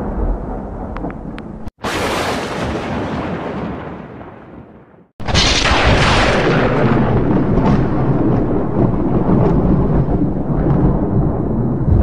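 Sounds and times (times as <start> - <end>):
thunder: 0.0 - 12.0.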